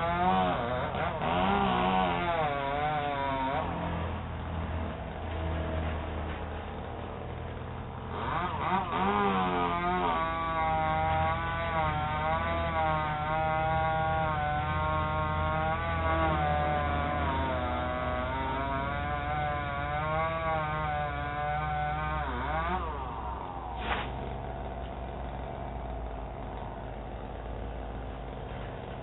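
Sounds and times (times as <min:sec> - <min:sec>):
small engine revving: 0:00.0 - 0:06.6, 0:07.9 - 0:29.0
low engine hum: 0:00.0 - 0:29.0.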